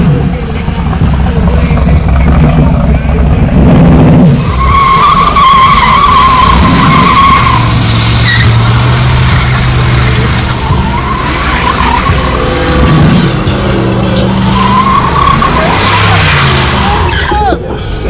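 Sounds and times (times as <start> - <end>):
car engine running hard: 0.0 - 18.0
tyres squealing: 0.3 - 18.0.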